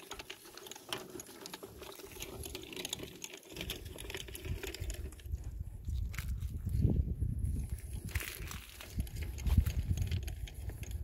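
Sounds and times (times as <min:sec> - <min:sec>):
wire spool clicking and rattling: 0:00.0 - 0:06.8, 0:07.7 - 0:11.0.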